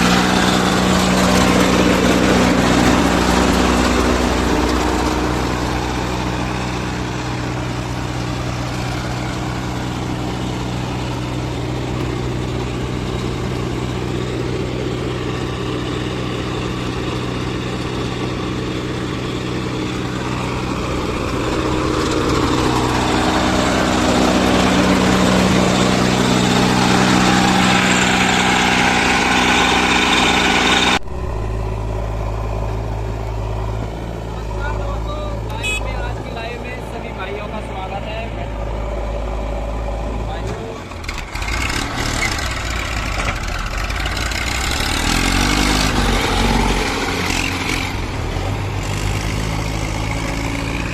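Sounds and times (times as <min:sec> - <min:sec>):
heavy diesel engine revving: 0:00.0 - 0:50.9
lower engine sound: 0:00.0 - 0:50.9.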